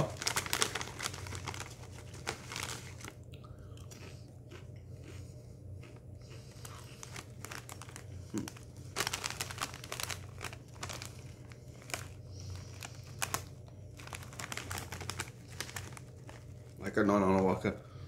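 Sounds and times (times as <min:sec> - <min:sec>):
foil snack bag crinkling: 0:00.0 - 0:03.3, 0:05.2 - 0:17.7.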